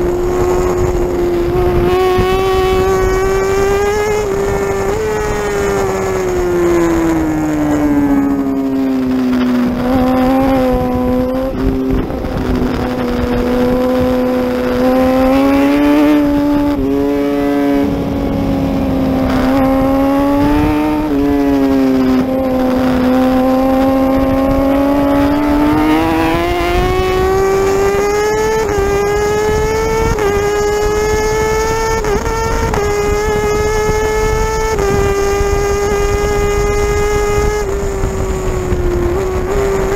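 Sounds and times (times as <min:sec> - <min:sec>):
superbike engine revving: 0:00.0 - 0:39.9.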